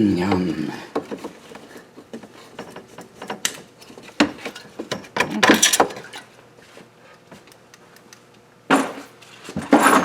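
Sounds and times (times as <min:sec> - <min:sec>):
tools and parts clicking and rattling: 0:00.9 - 0:06.4, 0:07.1 - 0:10.0.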